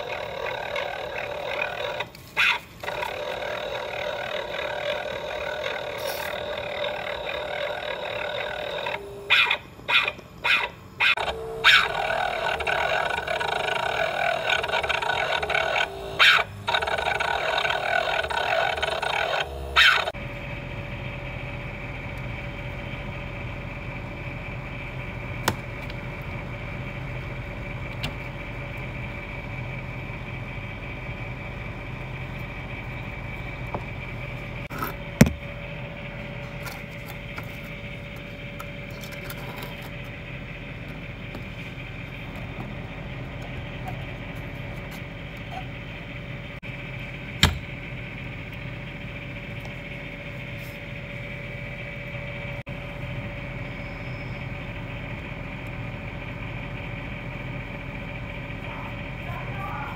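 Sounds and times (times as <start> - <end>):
air conditioner squealing: 0.0 - 25.4, 26.1 - 59.9
air conditioner humming: 0.0 - 59.9.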